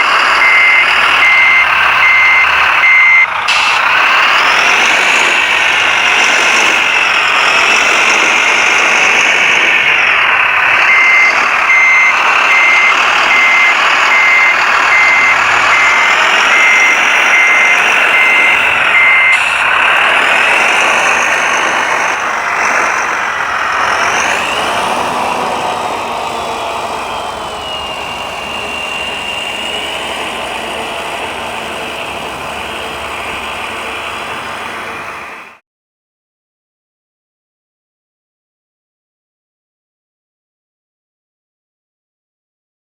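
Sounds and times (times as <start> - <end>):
reversing beeper: 0.0 - 35.6
whining electric motors and pumps: 0.0 - 35.6.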